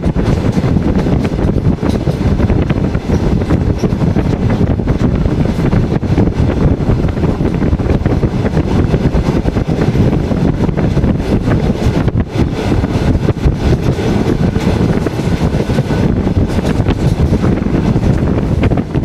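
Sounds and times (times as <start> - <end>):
train carriage rumbling on rails: 0.0 - 19.0
wind buffeting microphone: 0.0 - 19.0.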